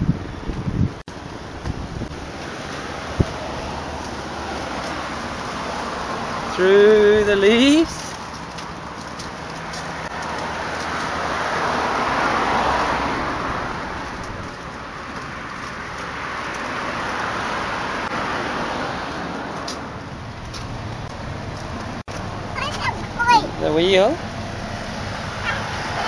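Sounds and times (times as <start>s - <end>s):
cars going by: 0.0s - 26.0s.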